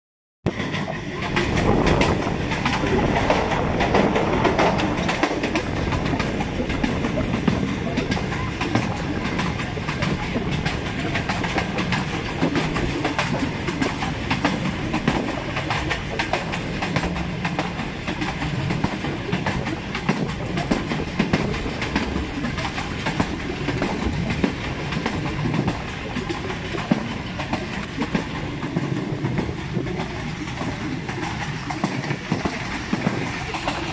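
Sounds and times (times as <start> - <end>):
rush of moving train: 0.4 - 33.9
wheels clattering over rails: 0.5 - 33.9.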